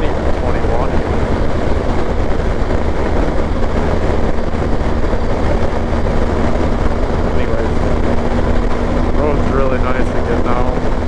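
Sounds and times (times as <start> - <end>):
heavy wind: 0.0 - 11.0
motorcycle engine hum: 0.0 - 11.0
road rumble: 0.0 - 11.0.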